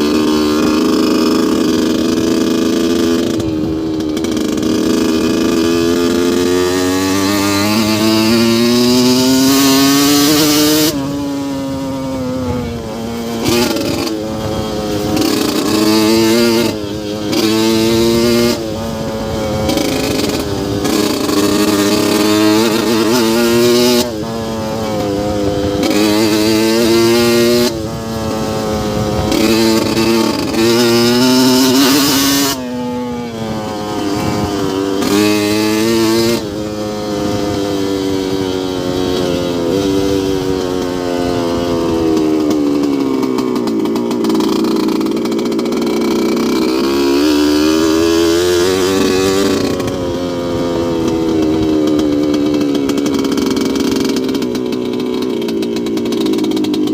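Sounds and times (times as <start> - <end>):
two-stroke motorcycle engine revving: 0.0 - 56.9.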